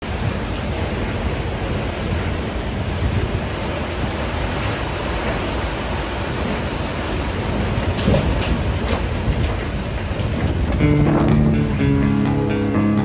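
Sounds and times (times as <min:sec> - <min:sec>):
rushing noise with low rumble: 0:00.0 - 0:13.0.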